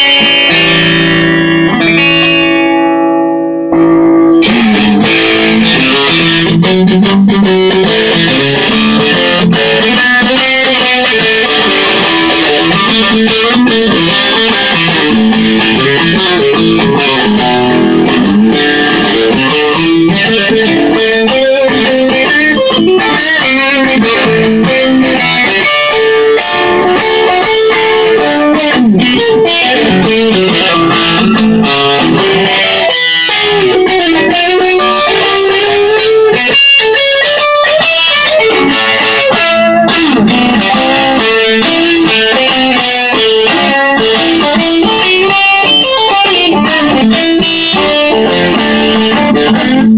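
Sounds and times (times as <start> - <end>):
electric guitar playing: 0.0 - 49.9.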